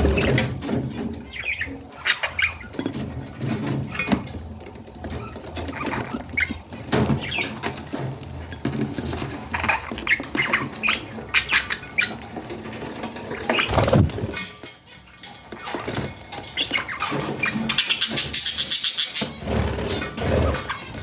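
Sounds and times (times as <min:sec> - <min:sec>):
budgies chirping: 0:00.0 - 0:21.0.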